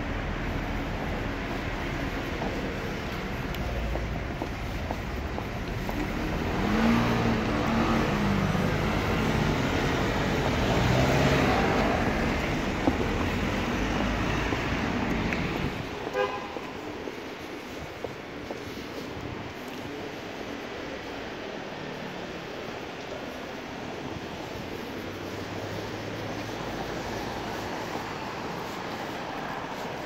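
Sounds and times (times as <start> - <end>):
cars and scooters passing: 0.0 - 30.0.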